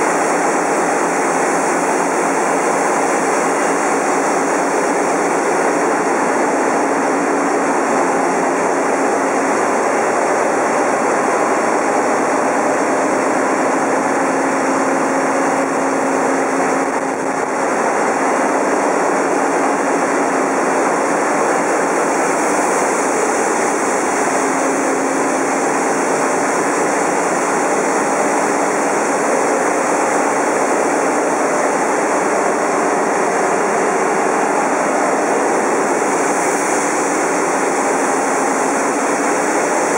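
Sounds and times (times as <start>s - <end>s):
engines and pumps running: 0.0s - 39.9s
steady machinery hums: 0.0s - 39.9s.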